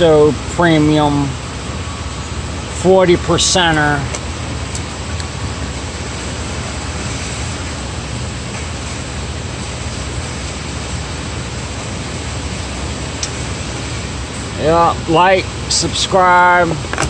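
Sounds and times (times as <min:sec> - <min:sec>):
background rumble and hiss: 0:00.0 - 0:17.0.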